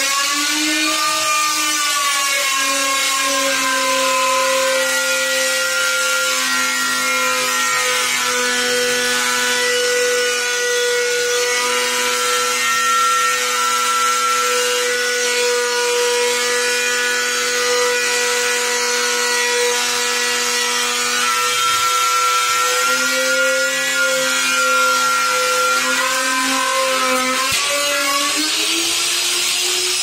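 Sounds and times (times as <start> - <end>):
electric router cutting: 0.0 - 30.0.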